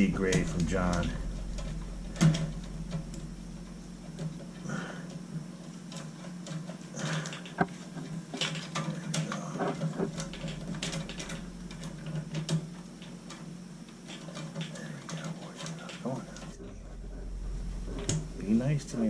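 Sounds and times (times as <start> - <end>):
hand tools and metal parts rattling: 0.0 - 17.0
steady low hum: 0.0 - 19.0.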